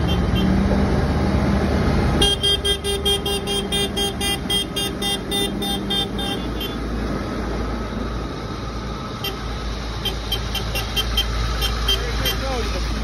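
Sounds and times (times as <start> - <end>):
tractors driving past: 0.0 - 13.0
tyres on wet road: 0.0 - 13.0.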